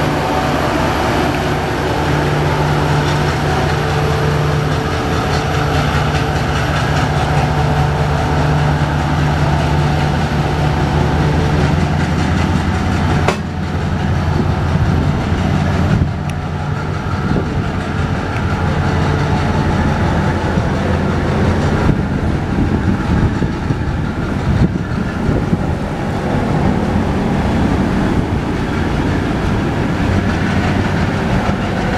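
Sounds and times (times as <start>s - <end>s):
locomotive engine hum: 0.0s - 31.9s
train coaches rolling on rails: 0.0s - 31.9s.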